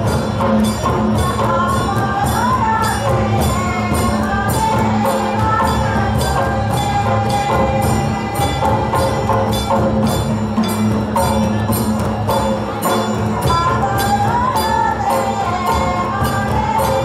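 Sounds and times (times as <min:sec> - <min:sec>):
drums beating: 0:00.0 - 0:17.0.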